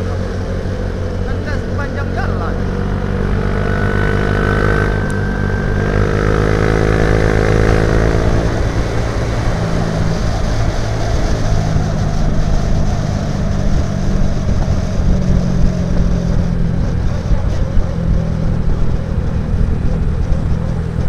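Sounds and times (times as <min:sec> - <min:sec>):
high whine: 0:00.0 - 0:21.0
motorcycle engine running: 0:00.0 - 0:21.0
wind rushing over microphone: 0:00.0 - 0:21.0.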